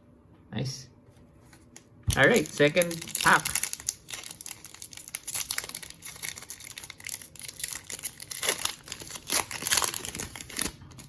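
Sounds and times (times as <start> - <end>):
plastic wrapper crinkling: 2.1 - 11.0.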